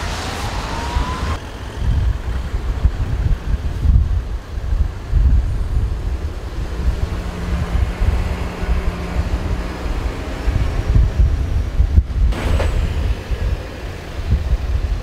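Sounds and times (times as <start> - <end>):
motorway vehicle noise: 0.0 - 15.0
wind gusting on microphone: 0.0 - 15.0.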